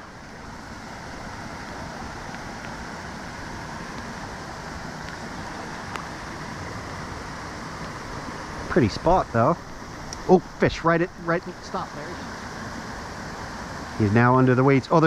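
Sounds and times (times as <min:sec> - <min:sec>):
light rain on water: 0:00.0 - 0:15.0.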